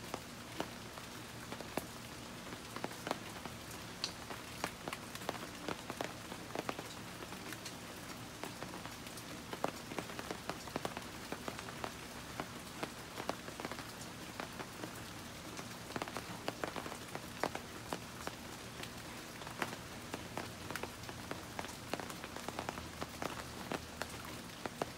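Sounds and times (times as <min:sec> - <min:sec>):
steady rainfall: 0:00.0 - 0:24.9.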